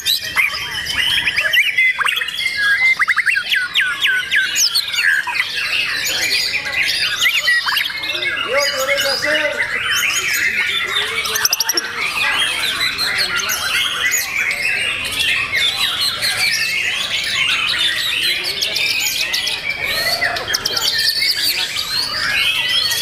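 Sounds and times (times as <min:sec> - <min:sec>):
fast rattling bird trill: 0:00.0 - 0:23.0
songbirds singing: 0:00.0 - 0:23.0.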